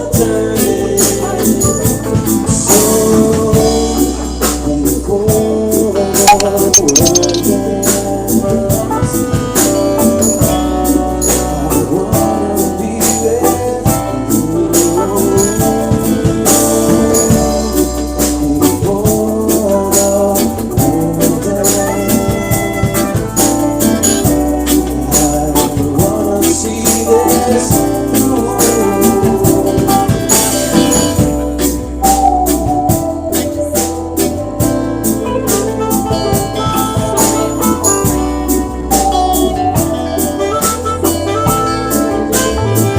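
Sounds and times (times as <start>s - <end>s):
live band playing: 0.0s - 42.9s.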